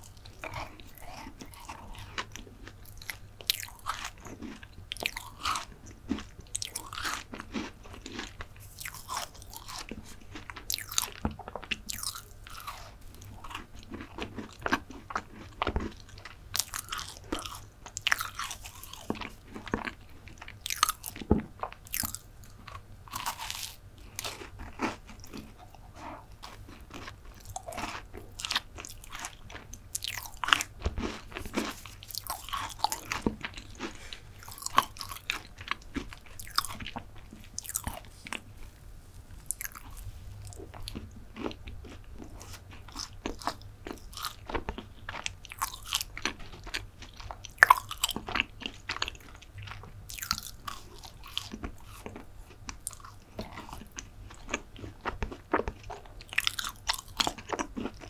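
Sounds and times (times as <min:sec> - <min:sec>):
close-miked chewing and biting: 0:00.0 - 0:38.8, 0:39.4 - 0:58.0.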